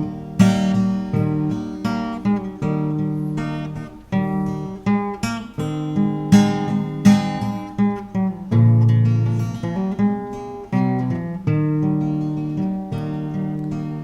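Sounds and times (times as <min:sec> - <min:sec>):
guitar notes and chords: 0:00.0 - 0:14.0.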